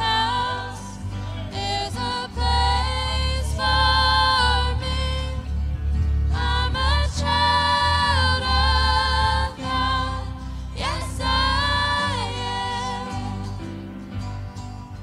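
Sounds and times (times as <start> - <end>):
vocal group singing: 0.0 - 14.2
instrumental accompaniment: 0.0 - 15.0.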